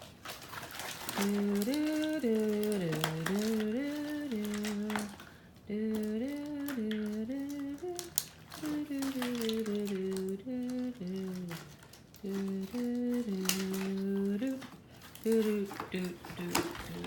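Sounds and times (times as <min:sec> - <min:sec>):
packaging crinkling and clicks: 0:00.0 - 0:17.0
person humming: 0:01.1 - 0:17.0.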